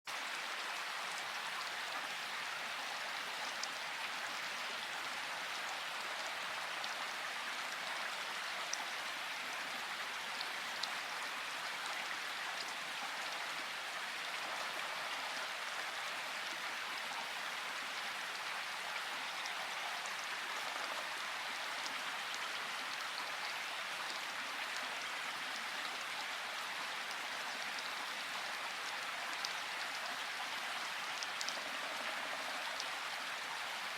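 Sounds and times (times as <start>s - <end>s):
steady rain hiss: 0.1s - 33.9s.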